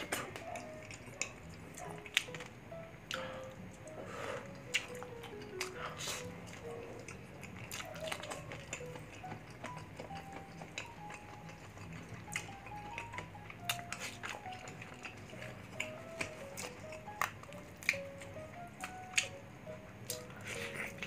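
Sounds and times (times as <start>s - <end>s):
crispy pork skin crunching: 0.0s - 2.6s, 4.5s - 19.4s
mouth sounds of eating: 0.0s - 19.4s, 20.0s - 21.0s
quiet background music: 0.0s - 21.0s.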